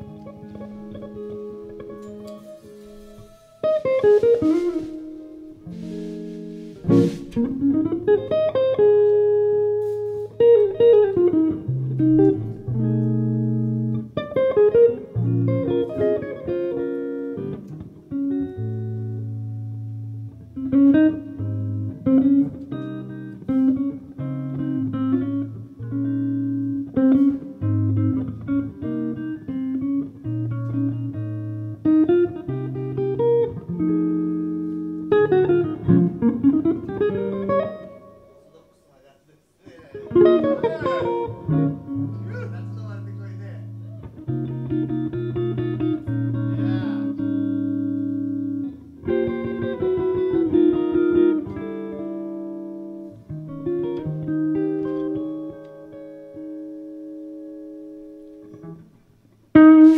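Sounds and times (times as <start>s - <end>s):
guitar playing: 0.0s - 39.0s, 39.7s - 59.9s.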